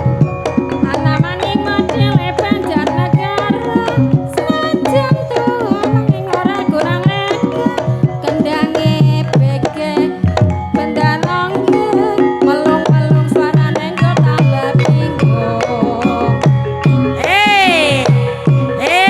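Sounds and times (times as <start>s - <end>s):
gamelan ensemble music: 0.0s - 19.0s
hand drum patterns: 0.0s - 19.0s.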